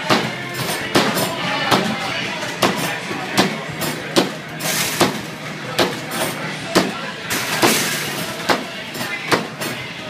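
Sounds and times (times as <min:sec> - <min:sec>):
basketballs striking hoop and backboard: 0:00.0 - 0:09.8.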